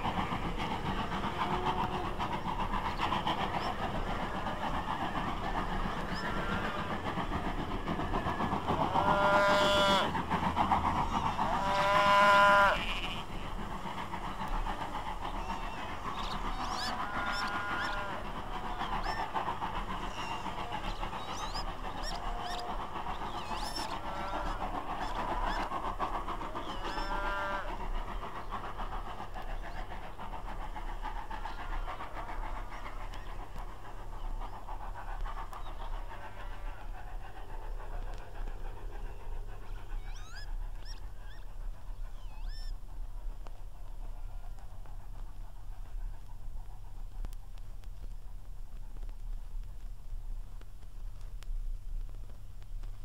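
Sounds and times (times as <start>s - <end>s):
steam locomotive working: 0.0s - 53.0s.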